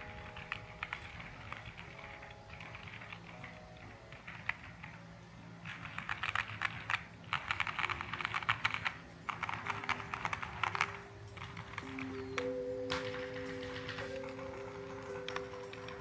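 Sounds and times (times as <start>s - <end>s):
mechanical keyboard typing: 0.0s - 5.0s, 5.6s - 16.0s.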